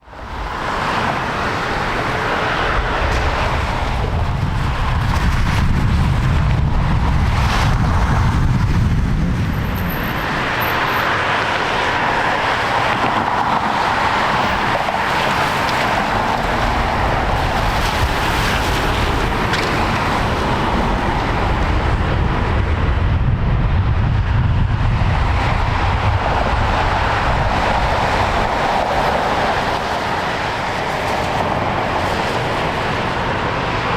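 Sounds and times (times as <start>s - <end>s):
jet engines roaring: 0.0s - 33.9s
wind buffeting microphone: 0.1s - 33.9s.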